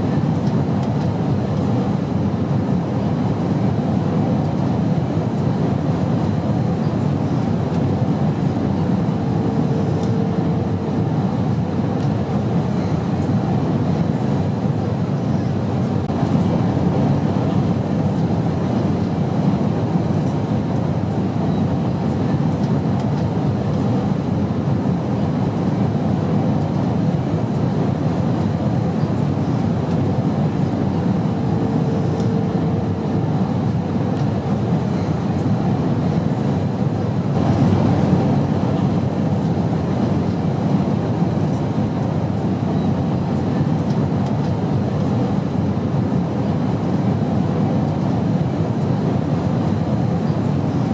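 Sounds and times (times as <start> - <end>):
airplane engine drone: 0.0 - 50.9.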